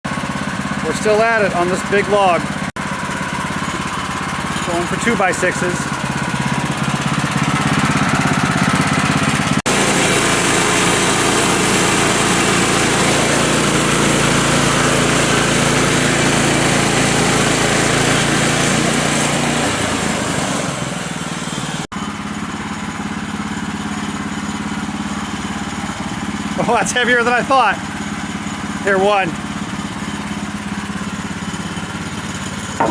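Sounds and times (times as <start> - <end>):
portable sawmill engine cutting log: 0.1 - 32.9.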